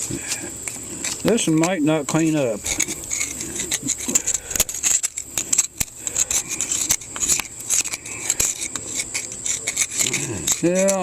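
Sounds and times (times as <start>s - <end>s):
clicks and scrapes on metal: 0.0s - 11.0s.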